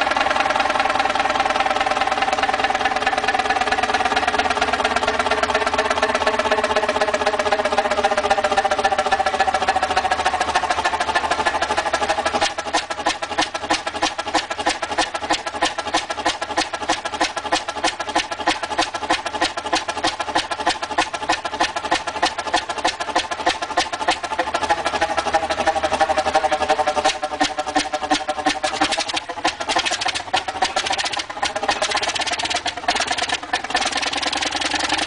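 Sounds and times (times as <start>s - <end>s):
stationary engine running: 0.0s - 35.0s.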